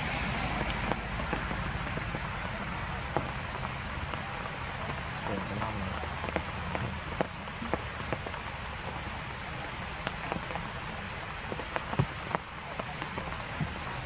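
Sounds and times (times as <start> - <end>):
heavy rain: 0.0 - 14.0
raindrops tapping close by: 0.0 - 14.0.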